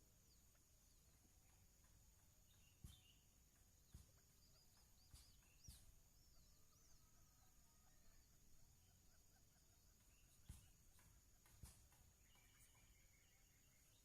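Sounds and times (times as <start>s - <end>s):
faint high bird chirps: 0.0s - 14.0s
faint high-pitched hum: 0.0s - 14.0s.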